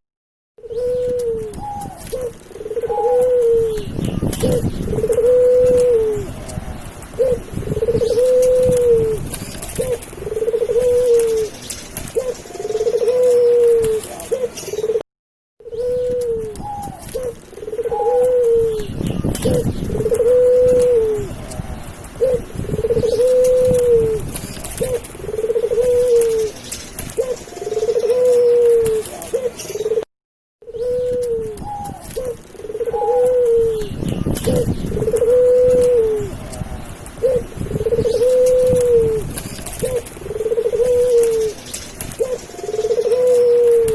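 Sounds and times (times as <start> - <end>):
dove cooing: 0.6 - 15.0, 15.6 - 43.9.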